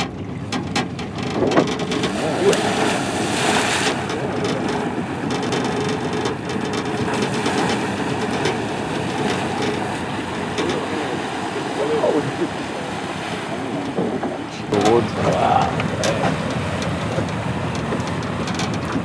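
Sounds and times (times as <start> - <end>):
outboard motor running: 0.0 - 19.0
water rushing and splashing: 0.0 - 19.0.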